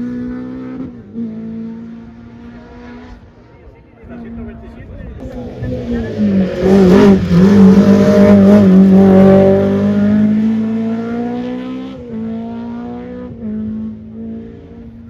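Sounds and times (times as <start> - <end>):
rally car engine at high revs: 0.0 - 3.5, 5.2 - 15.0.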